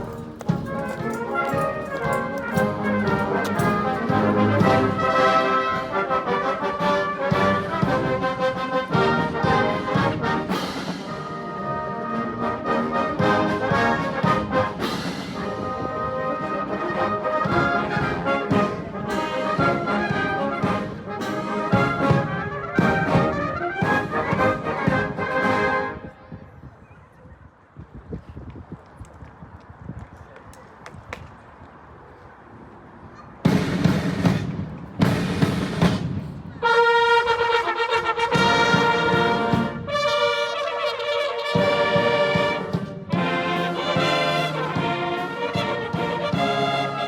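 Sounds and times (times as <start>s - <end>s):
marching drums: 0.0s - 25.9s, 33.4s - 47.0s
bugles: 0.0s - 26.2s, 33.4s - 47.0s
military brass band playing: 0.0s - 26.2s, 33.5s - 47.0s.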